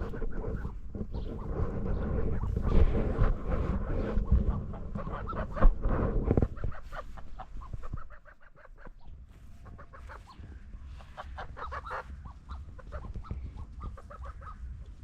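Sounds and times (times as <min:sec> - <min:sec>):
ducks quacking softly: 0:00.0 - 0:02.7, 0:04.1 - 0:15.0.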